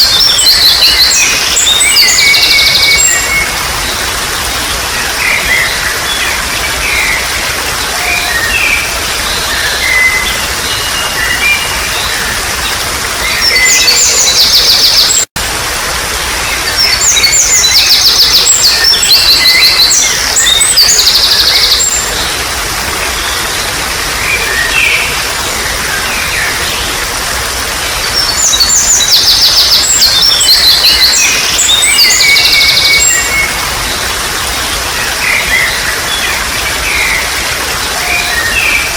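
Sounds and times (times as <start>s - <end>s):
birds chirping: 0.0s - 15.3s, 16.4s - 38.9s
water trickling: 0.0s - 38.9s.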